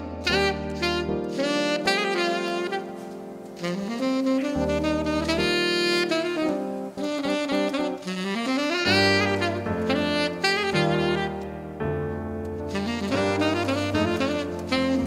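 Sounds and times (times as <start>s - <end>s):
jazz music with saxophone: 0.0s - 15.0s.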